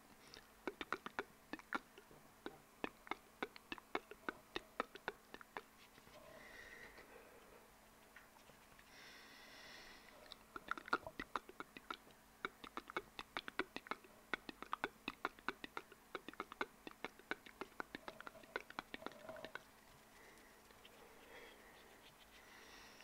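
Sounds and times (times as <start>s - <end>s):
wet mouth clicks: 0.1s - 6.2s, 10.1s - 22.8s.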